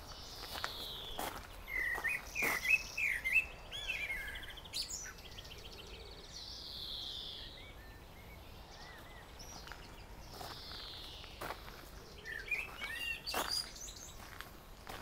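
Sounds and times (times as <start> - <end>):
faint outdoor background: 0.0 - 15.0
songbirds singing: 0.0 - 15.0.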